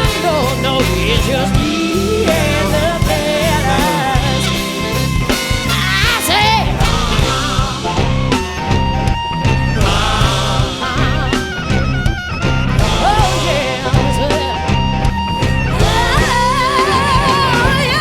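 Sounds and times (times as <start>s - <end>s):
bass: 0.0s - 18.0s
drums: 0.0s - 18.0s
live band playing rock: 0.0s - 18.0s.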